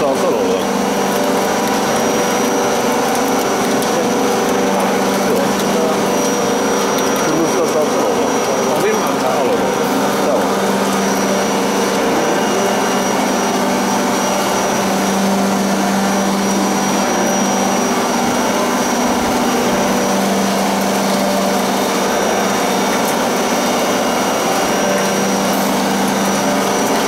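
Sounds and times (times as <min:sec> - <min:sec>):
high-pitched whine: 0:00.0 - 0:27.0
oil press mechanical hum: 0:00.0 - 0:27.0.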